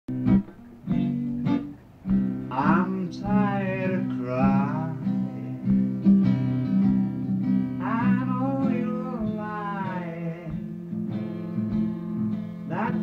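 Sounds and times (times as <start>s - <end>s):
acoustic guitar strumming: 0.1s - 13.0s.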